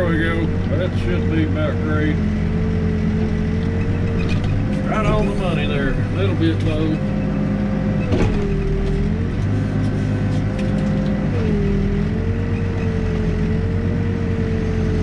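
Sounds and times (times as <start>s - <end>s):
diesel engine with whine: 0.0s - 15.0s.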